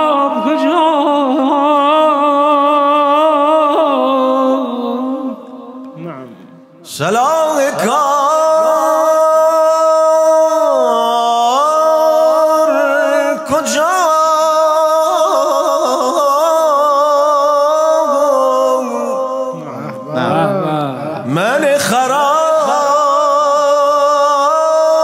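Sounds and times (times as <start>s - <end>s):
man chanting into a microphone: 0.0s - 25.0s.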